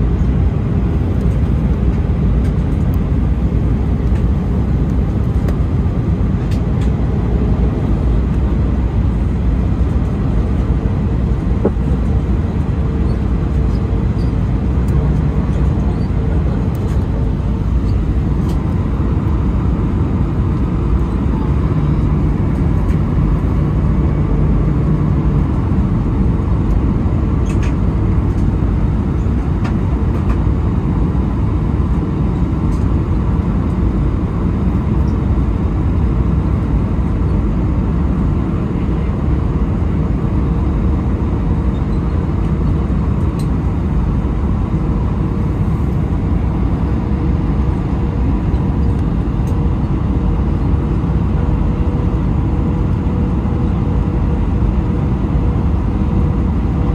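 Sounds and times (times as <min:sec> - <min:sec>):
airplane cabin airflow rush: 0:00.0 - 0:56.9.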